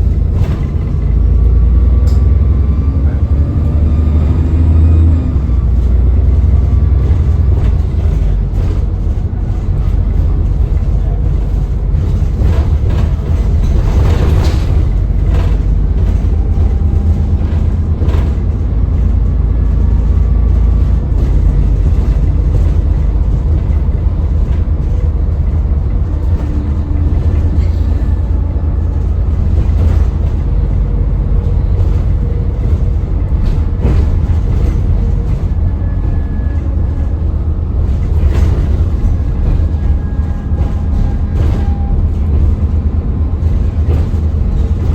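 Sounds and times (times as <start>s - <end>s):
bus engine rumble: 0.0s - 44.9s.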